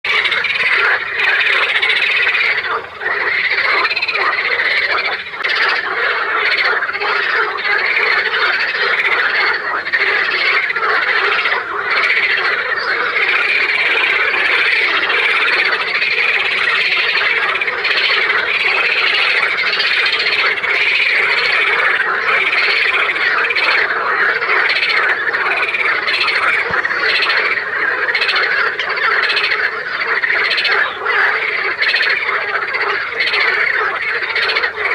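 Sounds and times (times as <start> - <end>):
frogs croaking: 0.0 - 34.9.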